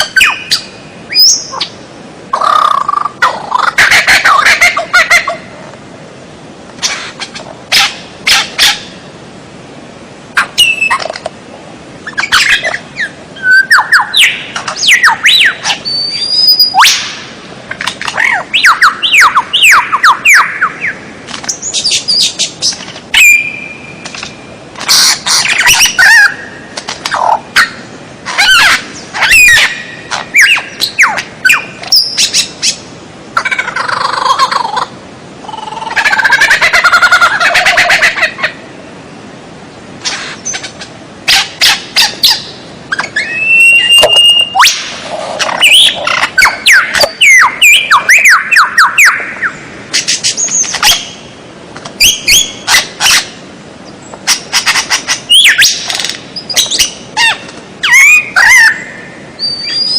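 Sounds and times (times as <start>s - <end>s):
varied songbird calls: 0.0s - 5.5s, 6.8s - 9.0s, 10.4s - 11.2s, 12.0s - 38.6s, 40.0s - 51.3s, 52.0s - 59.9s.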